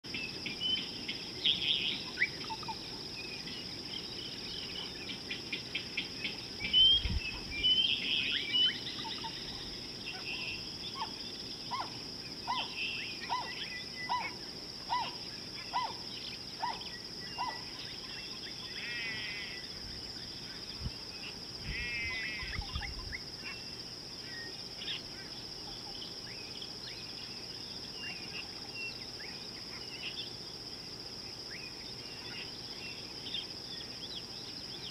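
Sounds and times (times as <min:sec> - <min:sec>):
high-pitched insect drone: 0:00.1 - 0:30.3
birds chirping: 0:00.1 - 0:30.4.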